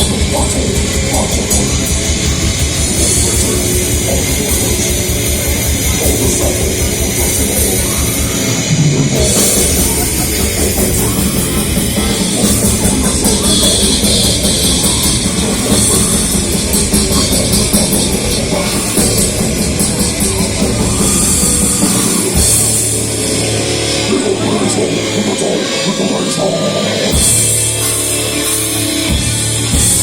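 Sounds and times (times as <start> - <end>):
rapid kick drum beats: 0.0 - 23.6, 27.1 - 30.0
cymbals: 0.0 - 30.0
heavy metal band playing: 0.0 - 30.0.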